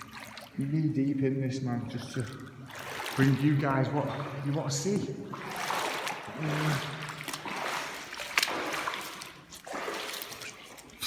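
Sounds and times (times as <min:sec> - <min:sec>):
water splashing from wading: 0:00.0 - 0:11.0.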